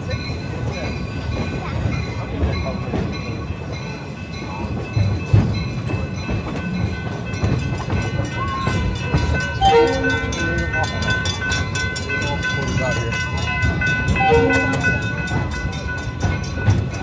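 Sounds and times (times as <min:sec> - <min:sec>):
train rumbling along track: 0:00.0 - 0:17.0
train wheels clicking: 0:00.0 - 0:17.0.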